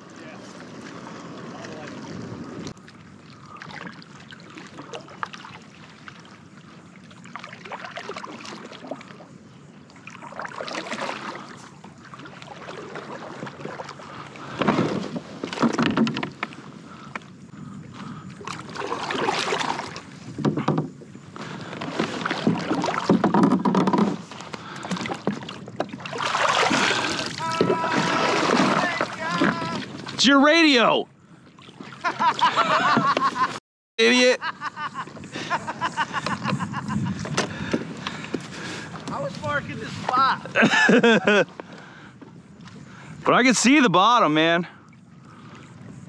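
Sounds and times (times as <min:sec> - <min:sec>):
water sloshing around kayak hull: 0:00.0 - 0:33.6, 0:34.2 - 0:46.0.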